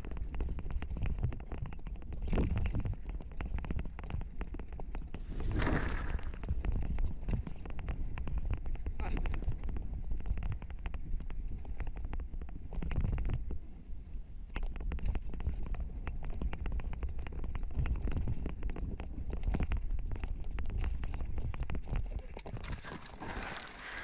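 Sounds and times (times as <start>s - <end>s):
wind and tyres rumbling: 0.0s - 24.0s.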